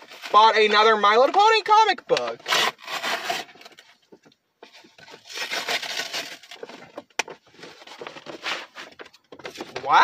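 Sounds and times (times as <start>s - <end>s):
packaging rustling and scraping: 0.0s - 0.9s, 2.3s - 10.0s.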